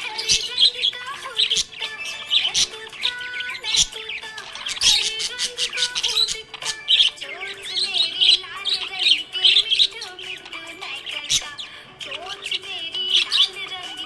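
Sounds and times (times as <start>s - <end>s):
background music: 0.0s - 14.0s
budgerigars chirping: 0.0s - 14.0s.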